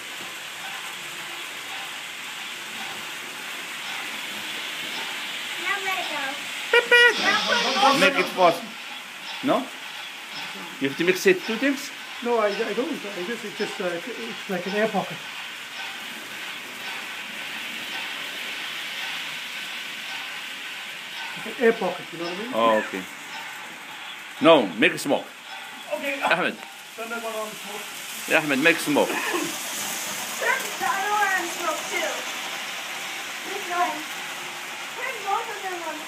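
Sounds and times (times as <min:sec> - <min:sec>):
model train running on track: 0:00.0 - 0:36.0.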